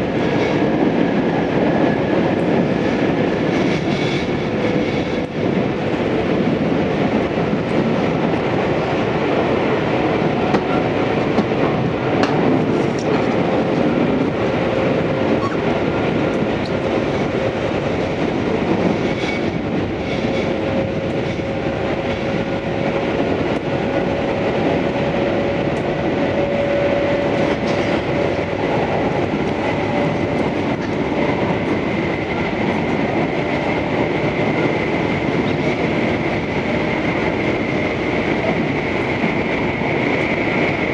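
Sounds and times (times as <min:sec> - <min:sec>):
train wheels rumbling on rail: 0:00.0 - 0:40.9
rail-joint clicks: 0:01.9 - 0:06.0, 0:10.4 - 0:40.8.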